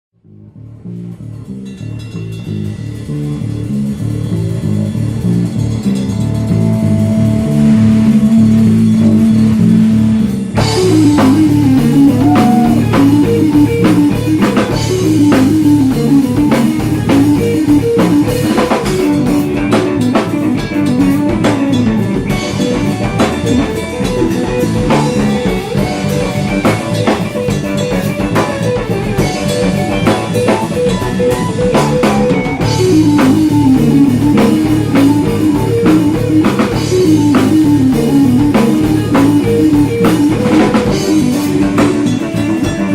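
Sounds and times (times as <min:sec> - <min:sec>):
bass guitar: 0:00.1 - 0:42.9
guitar melody: 0:00.2 - 0:42.9
drum kit: 0:00.3 - 0:42.9.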